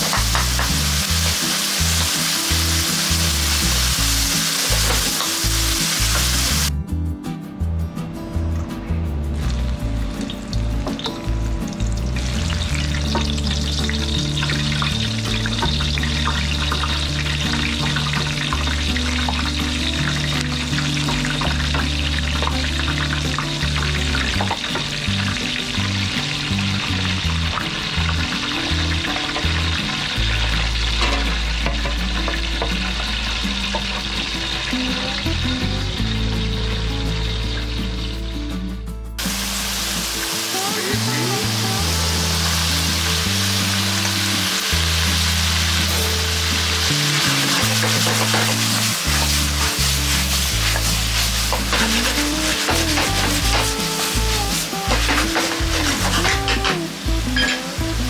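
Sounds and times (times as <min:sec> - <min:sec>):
vegetables sizzling in hot oil: 0:00.0 - 0:06.7, 0:09.4 - 0:38.6, 0:39.2 - 0:58.0.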